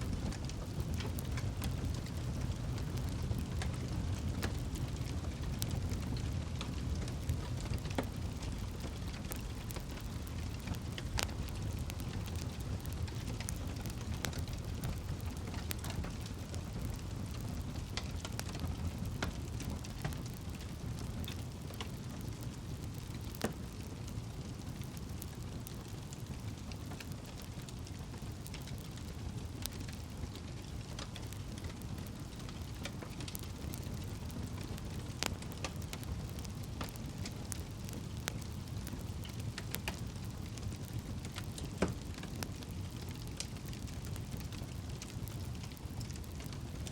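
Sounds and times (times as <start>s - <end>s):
burning wood crackling and popping: 0.0s - 46.9s
campfire rumble: 0.0s - 46.9s.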